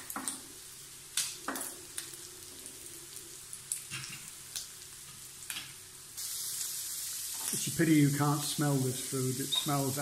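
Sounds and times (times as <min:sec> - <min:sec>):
pork sizzling on a grill: 0:00.0 - 0:10.0.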